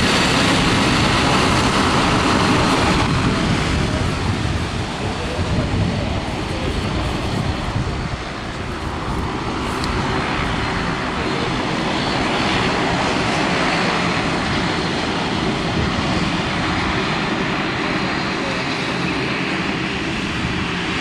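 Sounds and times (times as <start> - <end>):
turboprop aircraft engines droning: 0.0 - 21.0.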